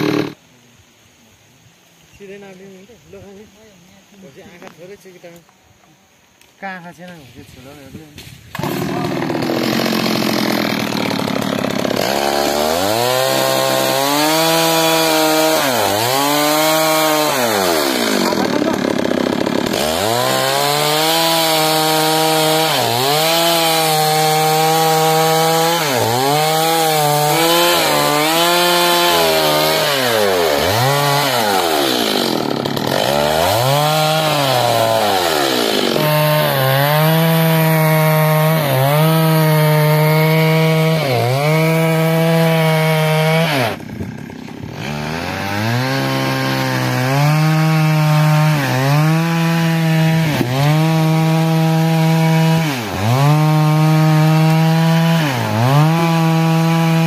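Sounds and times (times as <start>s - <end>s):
chainsaw cutting wood: 0.0s - 0.4s, 8.2s - 57.0s.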